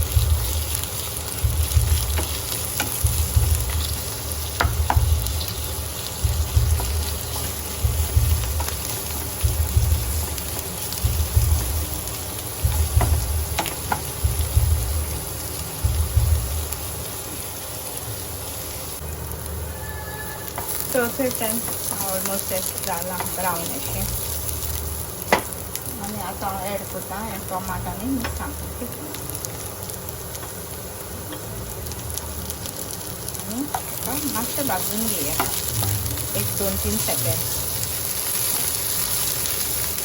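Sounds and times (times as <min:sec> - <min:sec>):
onions sizzling in a pan: 0:00.0 - 0:40.0.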